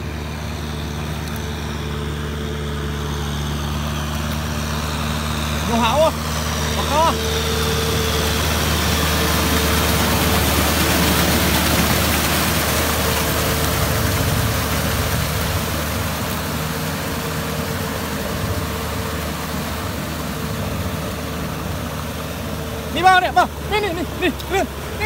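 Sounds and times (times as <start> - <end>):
tractor engine running: 0.0 - 25.0
rushing water noise: 0.1 - 25.0.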